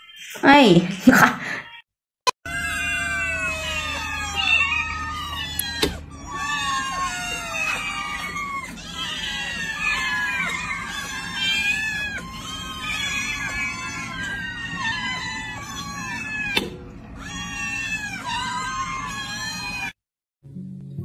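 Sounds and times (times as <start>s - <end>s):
many kittens meowing: 2.5s - 20.0s.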